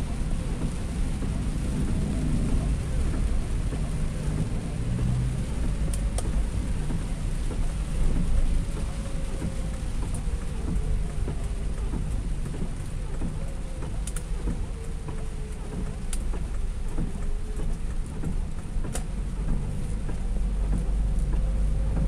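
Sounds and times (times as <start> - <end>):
car driving on wet road: 0.0 - 22.0
heavy rain drumming on car roof: 0.0 - 22.0.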